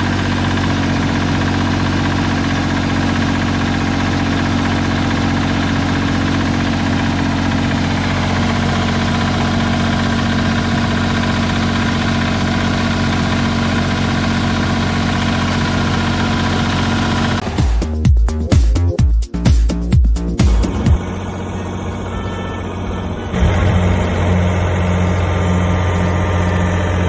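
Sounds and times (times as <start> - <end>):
diesel engine idling: 0.0 - 18.0, 20.5 - 27.0.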